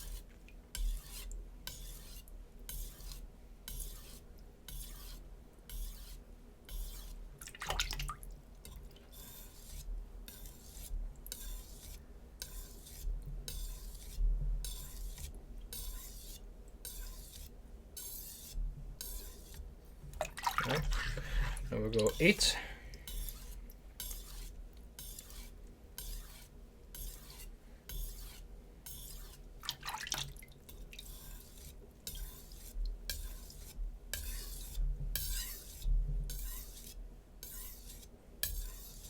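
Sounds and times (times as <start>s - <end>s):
knife rasping on whetstone: 0.0s - 7.2s, 9.1s - 19.6s, 20.8s - 29.4s, 30.7s - 39.0s.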